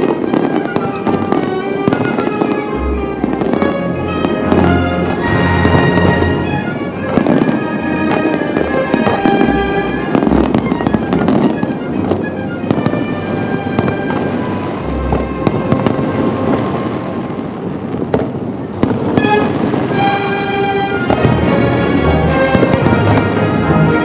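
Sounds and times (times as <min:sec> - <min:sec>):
music playing: 0:00.0 - 0:17.9, 0:18.8 - 0:24.0
fireworks bursting and crackling: 0:00.0 - 0:24.0
sharp fireworks bangs: 0:00.0 - 0:24.0.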